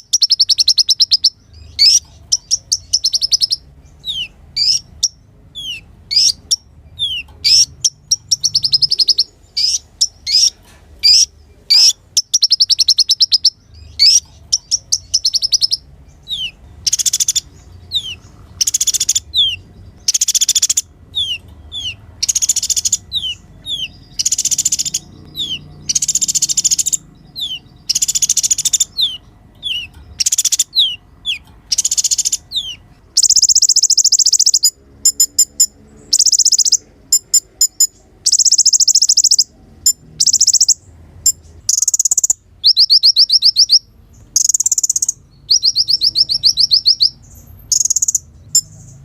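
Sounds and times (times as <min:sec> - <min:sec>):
sunbird singing: 0:00.0 - 0:49.0.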